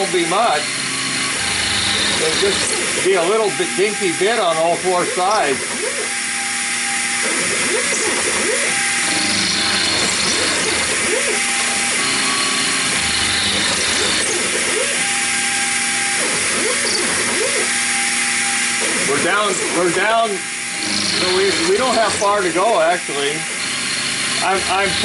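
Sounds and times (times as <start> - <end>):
milling machine cutting metal: 0.0 - 25.0.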